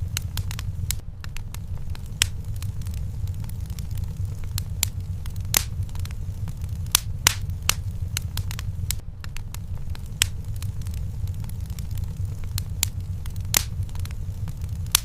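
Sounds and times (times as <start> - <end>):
fire popping sharply: 0.0 - 15.0
steady low rumble: 0.0 - 15.0
wood fire crackling: 0.0 - 15.0.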